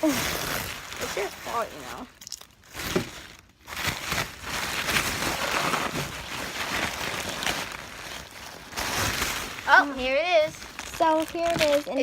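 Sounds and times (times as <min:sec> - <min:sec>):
packaging wrap crinkling: 0:00.0 - 0:12.0.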